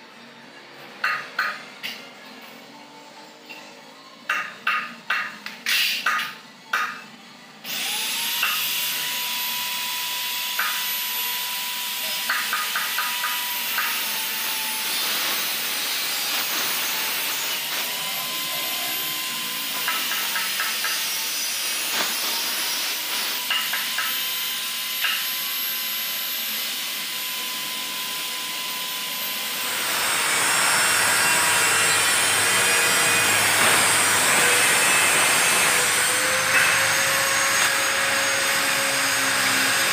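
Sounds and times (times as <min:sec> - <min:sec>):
power tool motor whining: 0:07.6 - 0:39.9.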